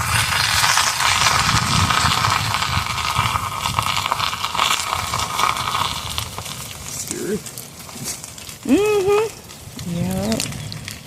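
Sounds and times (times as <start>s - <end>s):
fire burning: 0.0s - 11.0s
low rumble: 0.0s - 11.0s.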